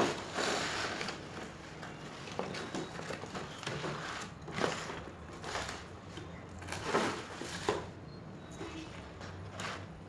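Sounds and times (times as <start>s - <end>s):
cardboard rustling and scraping: 0.0s - 8.0s, 8.6s - 10.0s.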